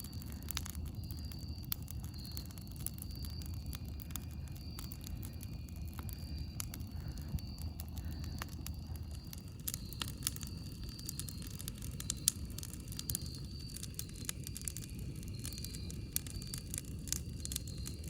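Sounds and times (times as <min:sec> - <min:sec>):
campfire crackling: 0:00.0 - 0:18.0
steady low rumble: 0:00.0 - 0:18.0.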